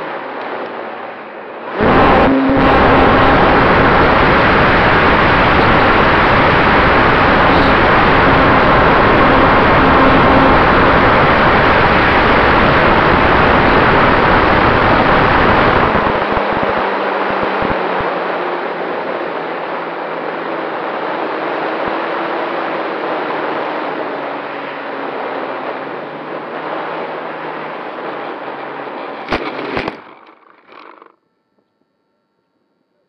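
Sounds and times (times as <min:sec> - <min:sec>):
wind and propeller noise: 0:00.0 - 0:31.1
low steady hum: 0:00.0 - 0:33.0.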